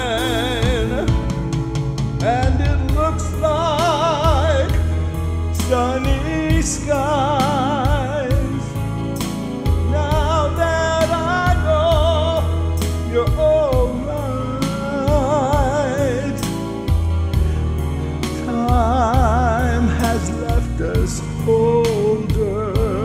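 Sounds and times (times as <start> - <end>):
synthesized pop ballad: 0.0 - 23.0.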